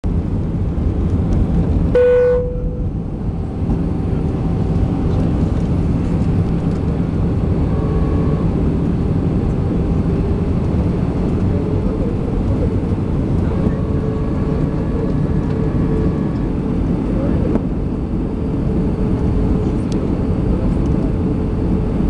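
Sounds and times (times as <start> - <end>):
airplane cabin engine rush: 0.0 - 22.0.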